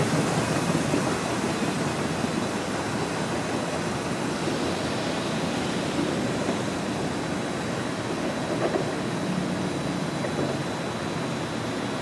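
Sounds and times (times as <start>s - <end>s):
steady rain: 0.0s - 12.0s
train rumbling: 0.0s - 12.0s.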